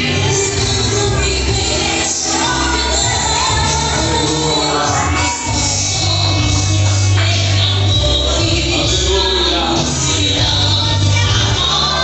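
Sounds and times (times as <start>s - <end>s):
loud music with singing: 0.0s - 12.0s.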